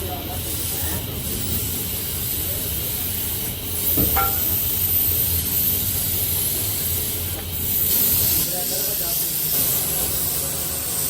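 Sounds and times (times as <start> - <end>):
workshop machinery hiss and rumble: 0.0 - 11.0.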